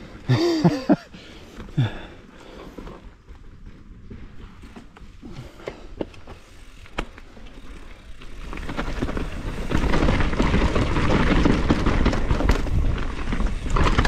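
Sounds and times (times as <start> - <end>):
bike tyre rolling and rattling: 0.0 - 14.0.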